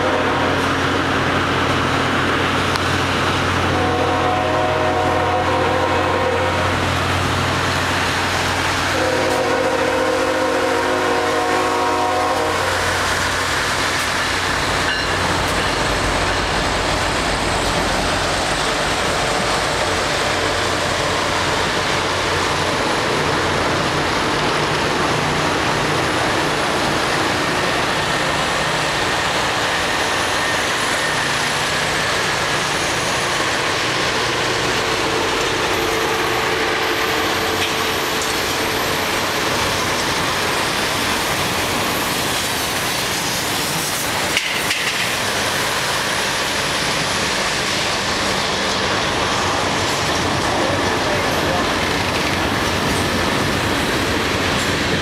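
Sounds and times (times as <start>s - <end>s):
rail grinding hiss: 0.0s - 55.0s
train rumble: 0.0s - 55.0s.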